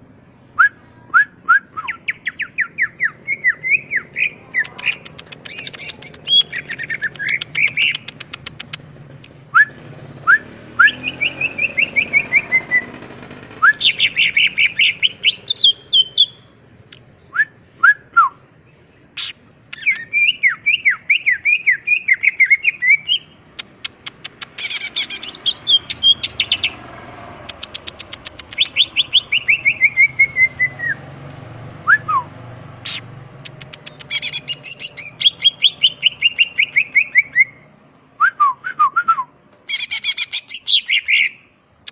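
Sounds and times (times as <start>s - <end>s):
songbird trilling and whistling: 0.5s - 8.8s, 9.5s - 18.4s, 19.1s - 31.0s, 31.8s - 41.9s.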